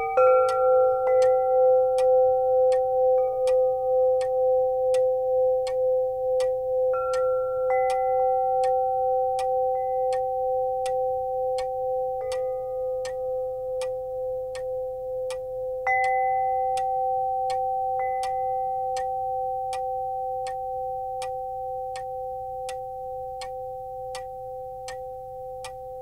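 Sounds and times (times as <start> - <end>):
soft ticking: 0.0 - 26.0.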